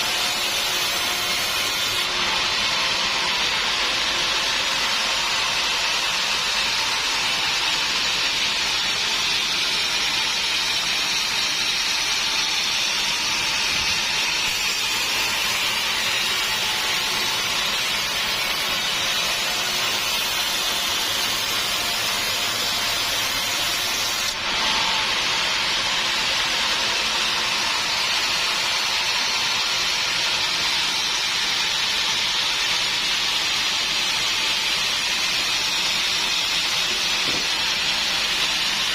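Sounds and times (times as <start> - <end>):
sawmill machinery hissing: 0.0 - 38.9.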